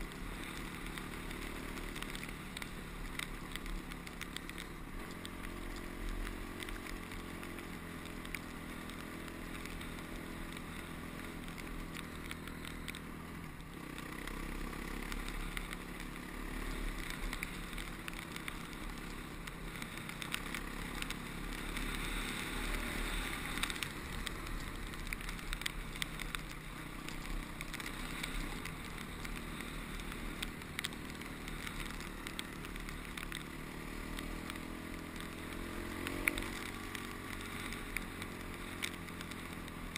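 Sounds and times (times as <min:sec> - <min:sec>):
dirt bike engine running: 0:00.0 - 0:39.9
wind and track noise: 0:00.0 - 0:39.9.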